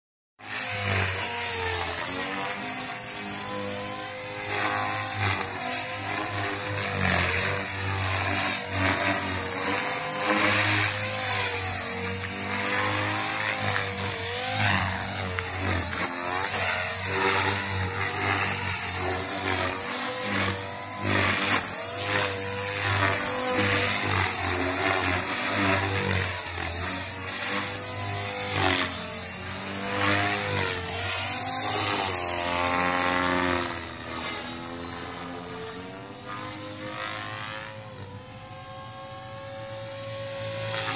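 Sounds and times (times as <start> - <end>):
rc helicopter motor whining: 0.4 - 40.9.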